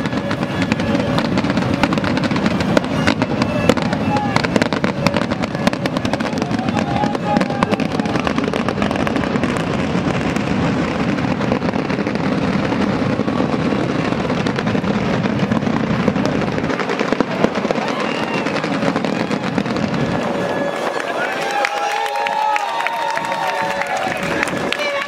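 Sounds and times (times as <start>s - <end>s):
firecrackers crackling: 0.0s - 25.0s.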